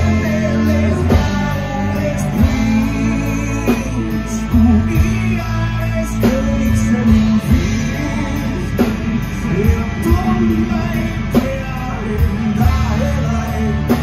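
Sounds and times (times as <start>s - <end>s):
drum kit: 0.0s - 14.0s
electric bass guitar: 0.0s - 14.0s
man singing: 0.0s - 14.0s.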